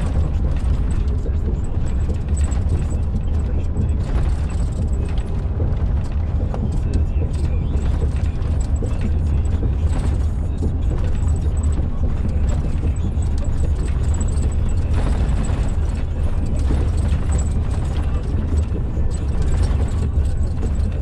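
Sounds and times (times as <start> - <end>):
knocks and rattles: 0.0 - 21.0
truck engine and road drone: 0.0 - 21.0.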